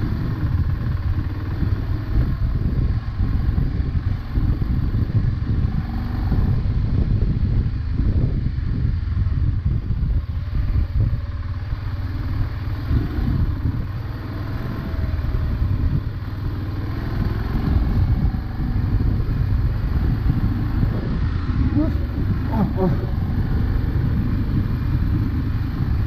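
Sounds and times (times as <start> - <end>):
motorcycle engine running: 0.0 - 26.0
wind on microphone: 0.0 - 26.0.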